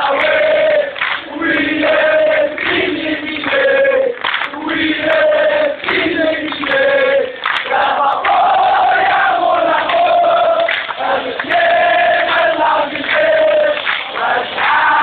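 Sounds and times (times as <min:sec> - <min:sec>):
crowd chanting a song: 0:00.0 - 0:15.0.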